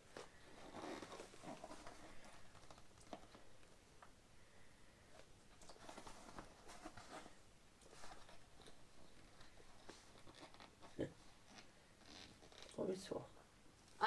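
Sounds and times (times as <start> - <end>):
vinyl crinkling and rustling: 0.0 - 4.2, 5.1 - 13.2.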